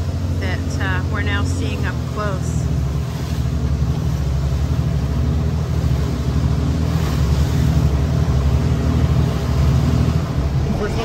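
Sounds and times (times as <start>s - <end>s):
motor boat engine droning: 0.0s - 11.0s
water hissing along hull: 1.2s - 11.0s.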